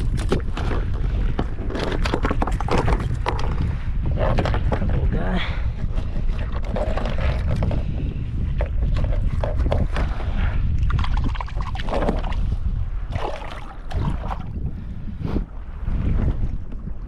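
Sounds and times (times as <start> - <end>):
water slapping plastic hull: 0.0 - 5.1, 5.8 - 14.5
wind rumbling on microphone: 0.0 - 17.0.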